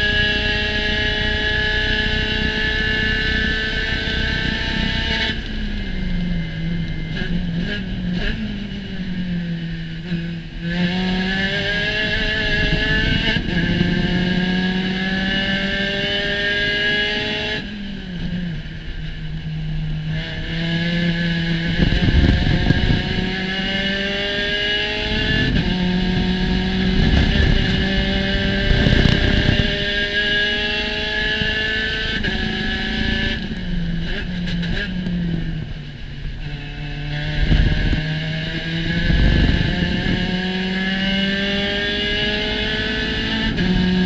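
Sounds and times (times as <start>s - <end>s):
race car engine accelerating: 0.0s - 19.2s, 19.9s - 44.0s.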